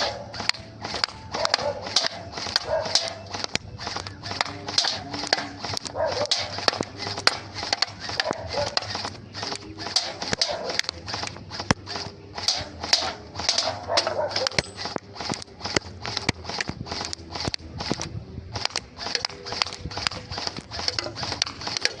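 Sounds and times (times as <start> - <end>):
gel blaster firing pops: 0.0 - 22.0.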